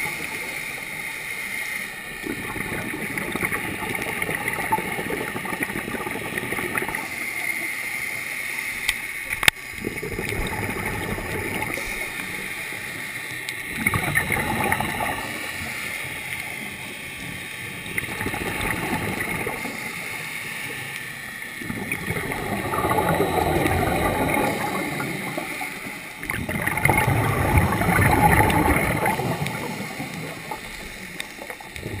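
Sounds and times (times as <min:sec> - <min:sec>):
exhaled bubbles rushing: 0:02.1 - 0:07.3, 0:09.8 - 0:12.6, 0:13.6 - 0:20.8, 0:21.6 - 0:32.0.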